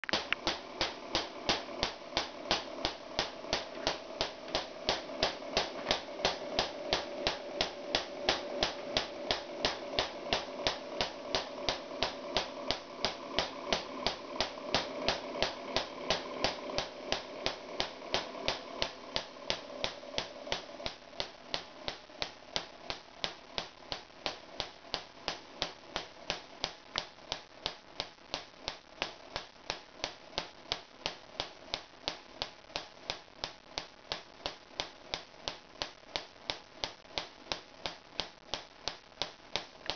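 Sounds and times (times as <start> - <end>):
steady hum: 0.0 - 39.9
tesla coil spark cracks: 0.0 - 39.9.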